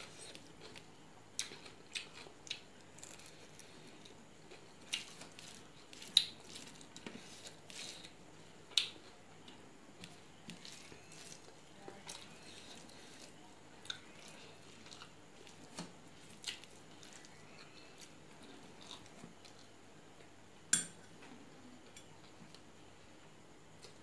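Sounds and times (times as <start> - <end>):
fingers squishing rice on plate: 0.0 - 19.7
quiet chewing: 0.0 - 20.4.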